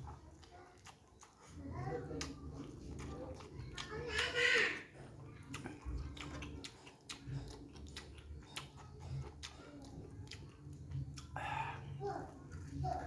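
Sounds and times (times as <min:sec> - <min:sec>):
person chewing noodles: 0:00.0 - 0:13.0.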